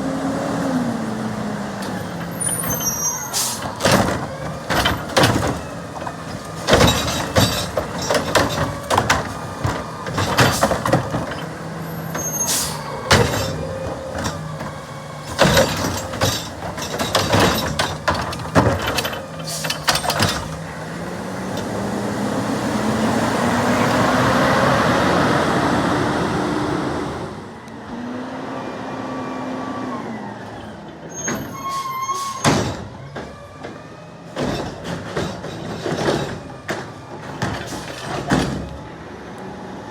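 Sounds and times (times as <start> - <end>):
garbage truck clanks and bangs: 1.0 - 24.4, 30.6 - 39.2.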